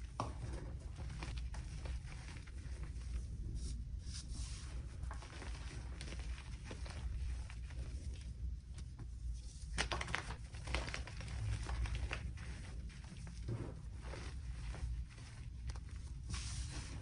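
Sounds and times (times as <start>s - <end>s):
hands squeezing powder: 0.0s - 17.0s.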